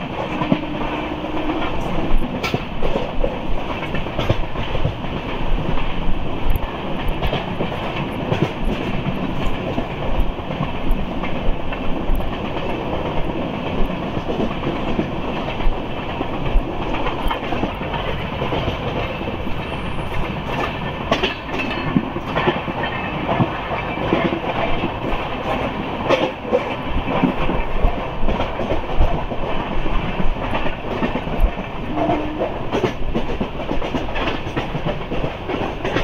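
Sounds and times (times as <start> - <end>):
wheels clattering over rail joints: 0.0 - 29.1
train coach rumble: 0.0 - 36.0.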